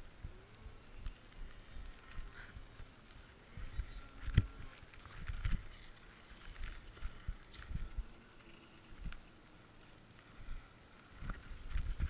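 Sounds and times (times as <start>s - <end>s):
wind buffeting camera: 0.0s - 9.3s, 10.4s - 12.0s.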